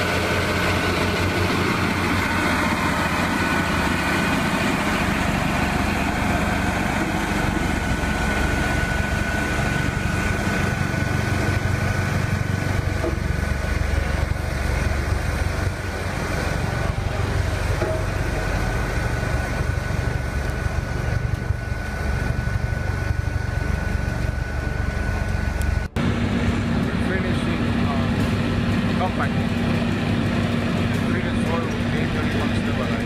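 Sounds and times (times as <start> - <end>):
road roller diesel engine running: 0.0 - 33.0.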